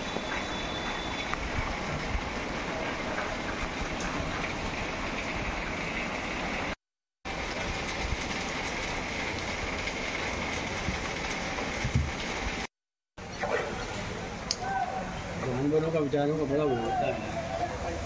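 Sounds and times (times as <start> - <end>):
heavy rain and floodwater rushing: 0.0 - 18.0.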